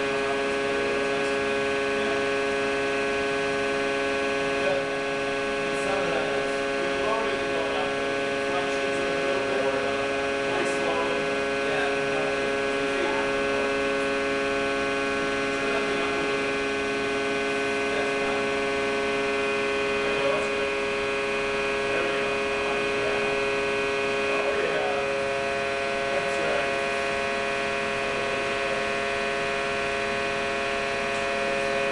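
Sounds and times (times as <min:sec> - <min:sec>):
testing machine humming: 0:00.0 - 0:31.9.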